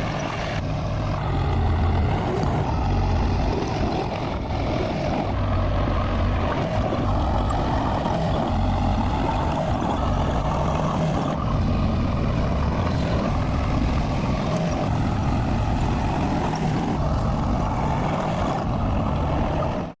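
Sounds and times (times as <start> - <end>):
bulldozer diesel engine running: 0.0 - 19.9.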